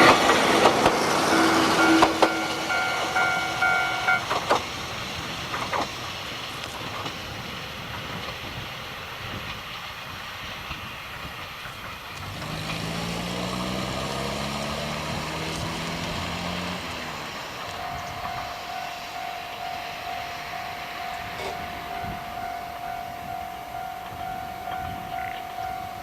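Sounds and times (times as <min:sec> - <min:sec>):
diesel train engine running past: 0:00.0 - 0:26.0.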